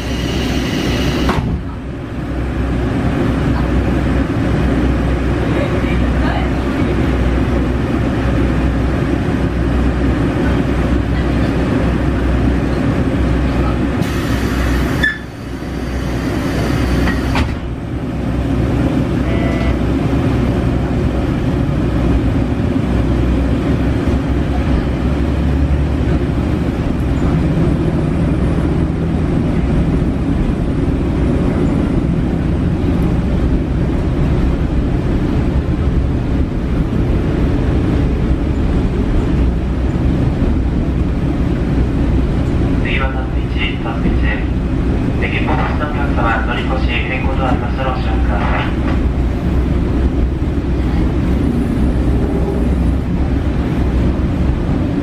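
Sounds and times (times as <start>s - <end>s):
railcar rumble from inside: 0.0s - 55.0s.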